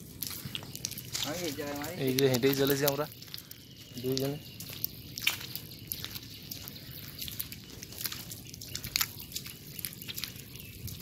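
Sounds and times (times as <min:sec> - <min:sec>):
feet squelching through mud: 0:00.0 - 0:11.0
wet clicks and pops: 0:00.1 - 0:11.0.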